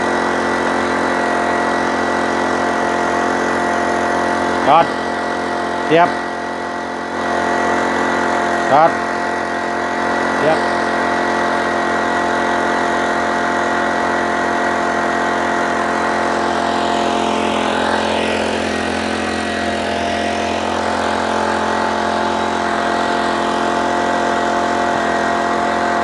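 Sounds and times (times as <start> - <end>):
generator engine running: 0.0 - 26.0.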